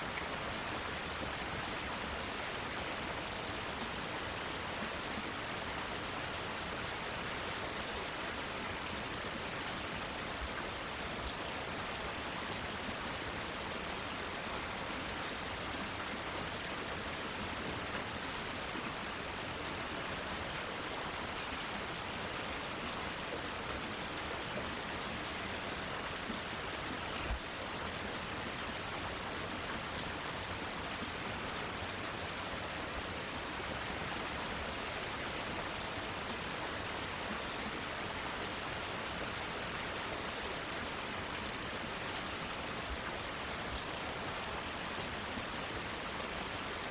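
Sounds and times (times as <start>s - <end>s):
rain on plants: 0.0s - 46.9s.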